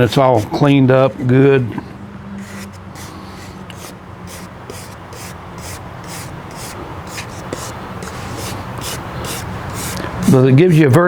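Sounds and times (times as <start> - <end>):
wire brush scrubbing wood: 0.0 - 0.7, 2.4 - 11.0
steady low hum: 0.0 - 10.9.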